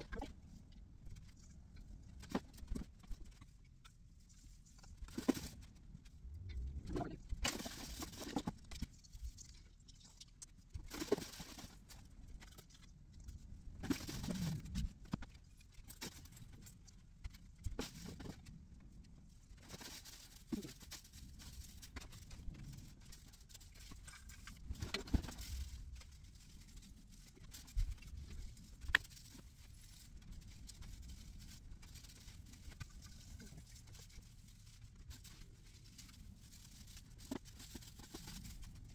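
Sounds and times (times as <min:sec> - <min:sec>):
plastic decorations rustling: 0:00.0 - 0:38.9.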